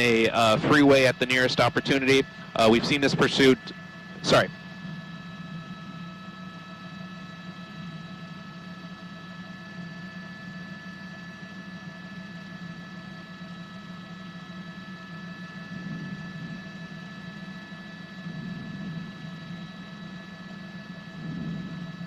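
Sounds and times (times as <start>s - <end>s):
helicopter turbine and rotors: 0.0s - 22.0s.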